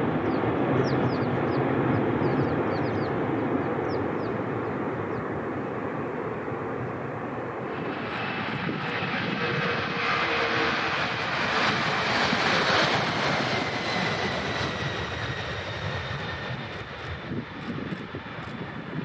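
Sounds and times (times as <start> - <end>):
faint jet whine: 0.0 - 19.0
jet engines at takeoff: 0.0 - 19.0.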